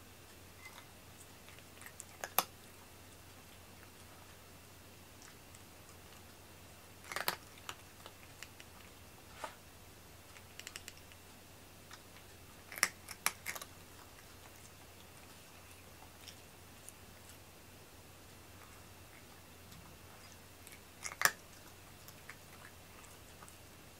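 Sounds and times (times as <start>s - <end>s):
cat crunching food: 0.3s - 4.5s, 5.1s - 9.0s, 10.2s - 17.6s, 18.5s - 23.8s.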